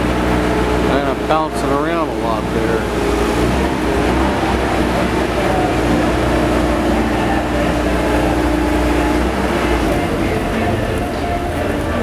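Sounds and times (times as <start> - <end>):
machine motor humming: 0.0 - 12.0.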